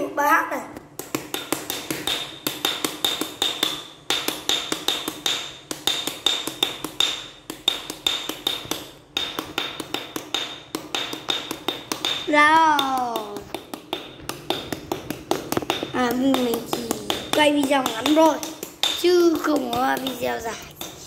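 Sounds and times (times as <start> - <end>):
sticks tapping rhythmically: 0.0 - 21.0.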